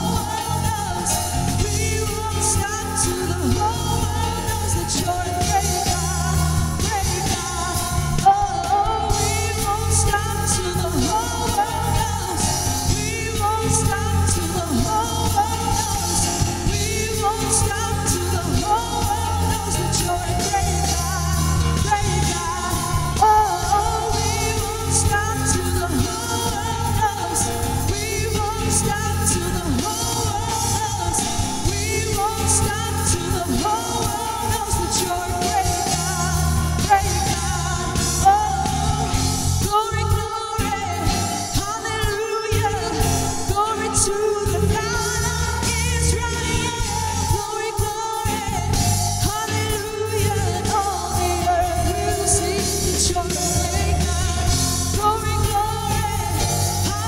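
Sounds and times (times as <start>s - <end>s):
band playing worship music: 0.0s - 57.0s
voices singing: 0.0s - 57.0s.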